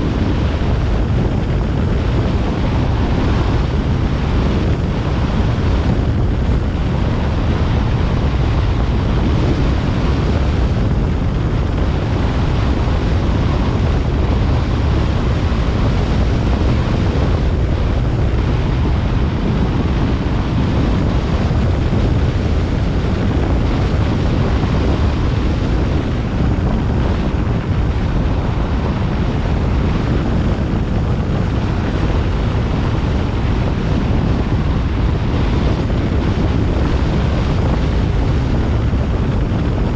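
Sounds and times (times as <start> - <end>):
car road noise: 0.0 - 39.9
wind buffeting microphone: 0.0 - 39.9.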